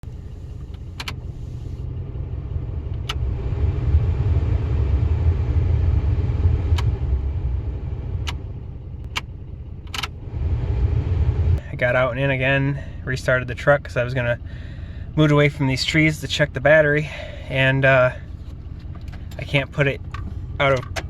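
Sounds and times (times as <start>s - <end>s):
pickup truck engine rumbling: 0.0s - 21.0s.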